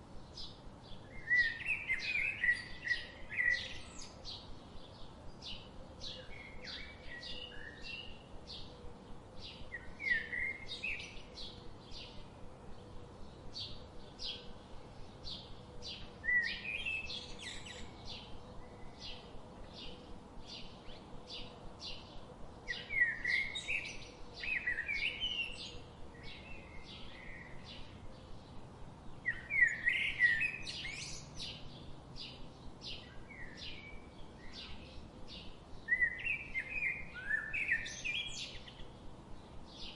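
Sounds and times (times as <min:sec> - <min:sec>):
birds chirping: 0:00.2 - 0:39.9.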